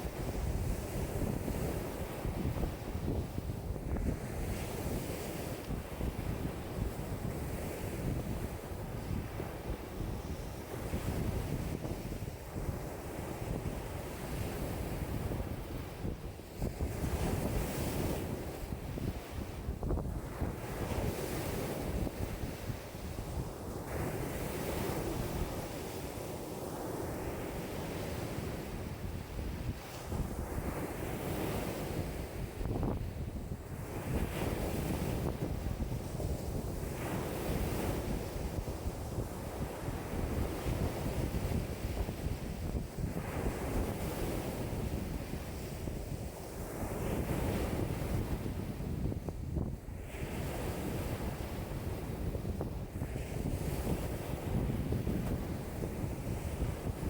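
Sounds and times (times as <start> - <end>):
waves breaking on shore: 0.0 - 57.0
wind gusting on microphone: 0.0 - 57.0.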